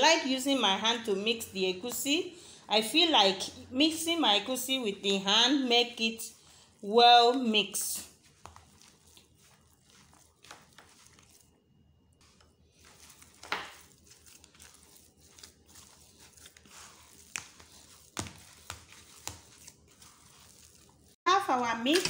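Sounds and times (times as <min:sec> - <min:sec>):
hand mixing food in bowl: 0:00.2 - 0:22.0.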